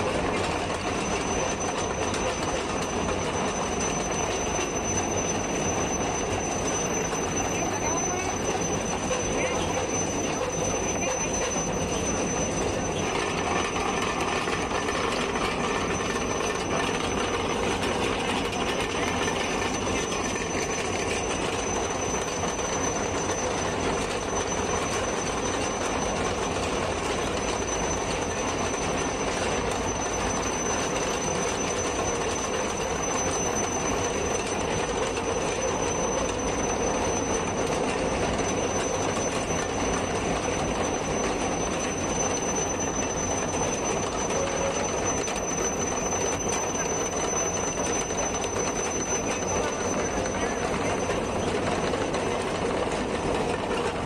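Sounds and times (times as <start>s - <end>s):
freight train rumble and rattle: 0.0s - 54.0s
thin high whine: 0.8s - 54.0s.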